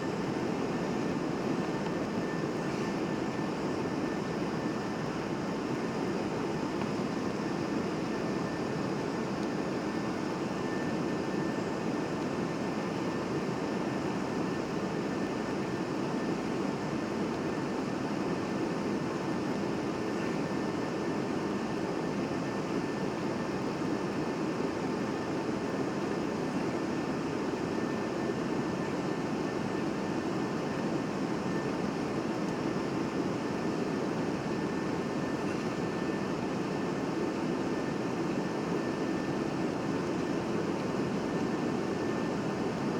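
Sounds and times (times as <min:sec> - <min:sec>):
faint high whine: 0:00.0 - 0:42.9.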